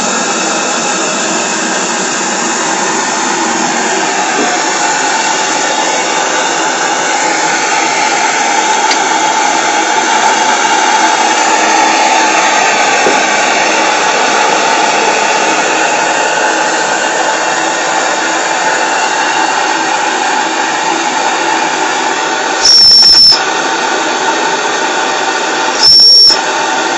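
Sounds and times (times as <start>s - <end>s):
steam engine hissing rush: 0.0s - 22.8s.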